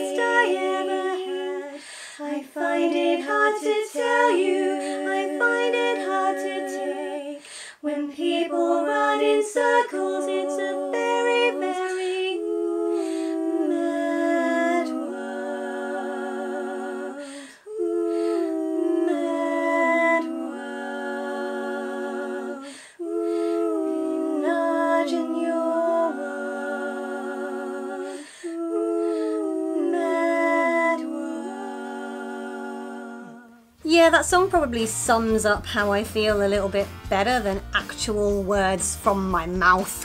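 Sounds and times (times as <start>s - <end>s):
woman singing a cappella harmony: 0.0s - 36.8s.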